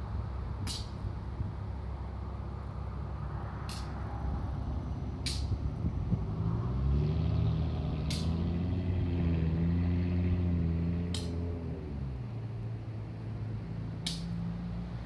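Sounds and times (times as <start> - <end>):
heavy vehicle engine hum: 0.0 - 15.0.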